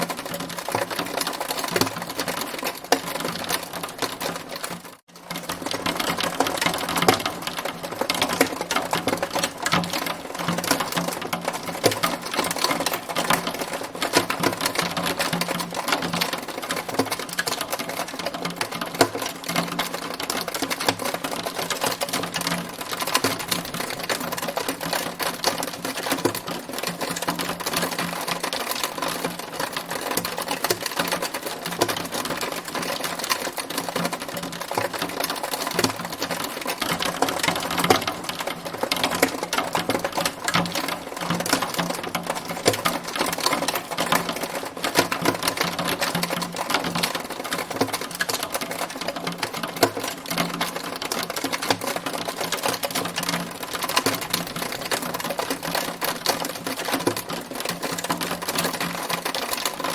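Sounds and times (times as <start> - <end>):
hail striking a hard surface: 0.0 - 59.9.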